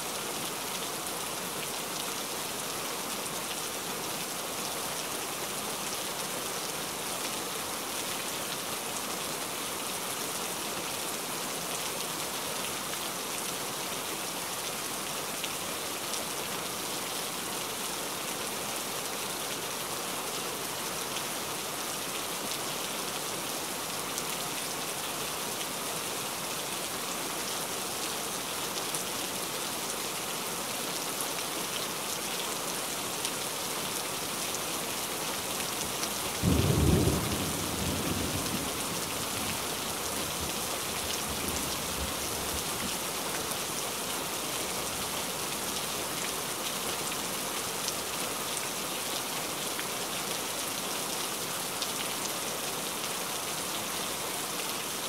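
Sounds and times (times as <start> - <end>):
heavy rain falling: 0.1 - 55.0.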